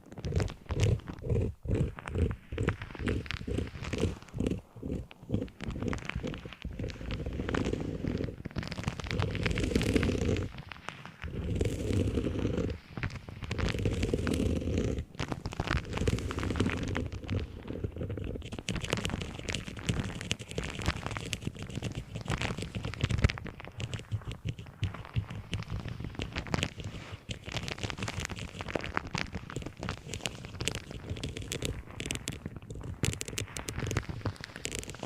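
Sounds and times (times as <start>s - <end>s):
objects tapping and scratching: 0.0s - 35.0s.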